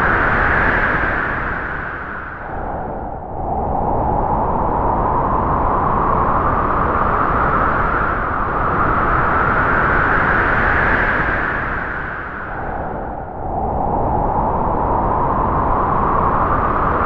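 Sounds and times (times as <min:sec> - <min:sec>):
wind howling through trees: 0:00.0 - 0:17.0.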